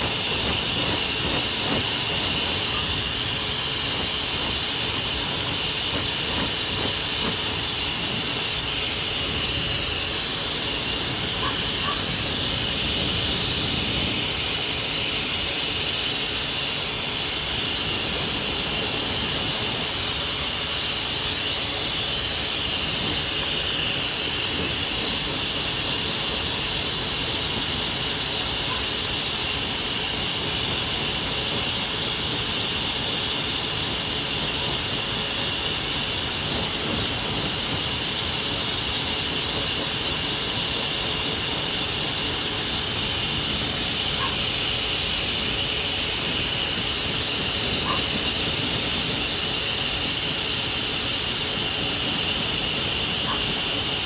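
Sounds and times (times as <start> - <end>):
blow dryer rushing air: 0.0 - 54.0.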